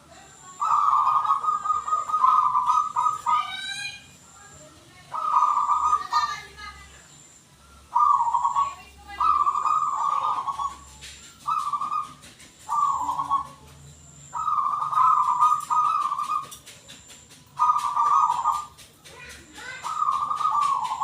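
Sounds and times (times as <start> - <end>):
dove cooing: 0.0 - 7.0, 7.8 - 21.0.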